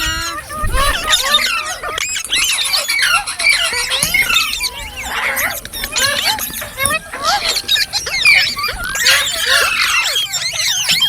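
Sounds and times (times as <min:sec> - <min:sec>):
parrot chirping and squawking: 0:00.0 - 0:11.0.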